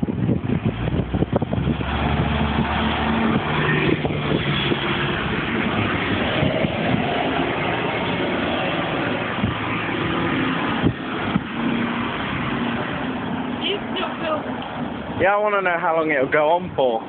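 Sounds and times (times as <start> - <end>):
low engine hum: 0.0 - 15.2
road traffic: 0.0 - 17.0.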